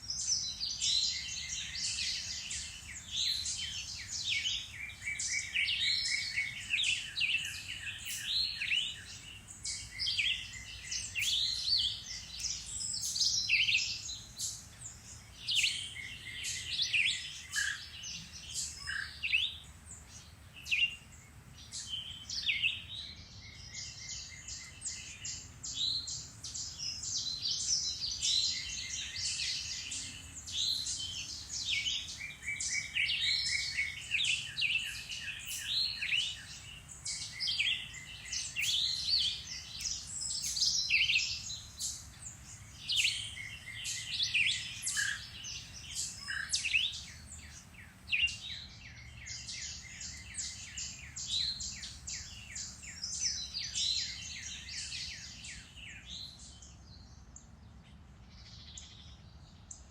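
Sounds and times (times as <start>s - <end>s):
songbirds singing and calling: 0.0s - 59.9s.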